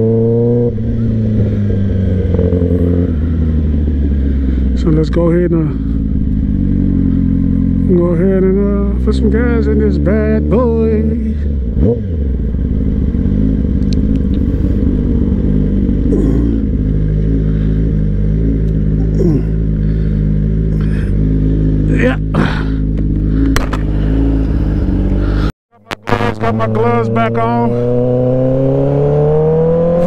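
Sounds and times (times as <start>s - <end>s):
motorcycle engine idling: 0.7s - 27.0s.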